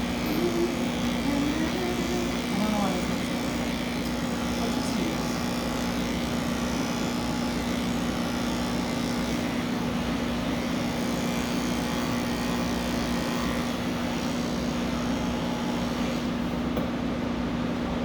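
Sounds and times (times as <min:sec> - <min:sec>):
electric clippers humming: 0:00.0 - 0:17.0.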